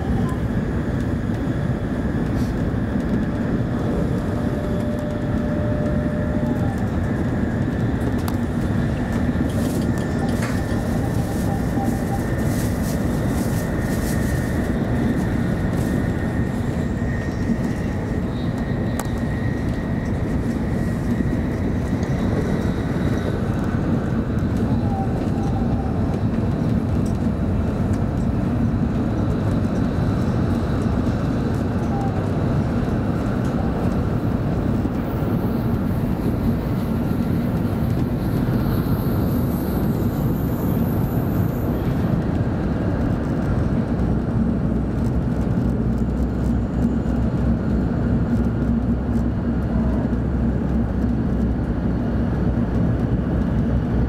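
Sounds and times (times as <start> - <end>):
train rumble inside cabin: 0.0 - 54.0.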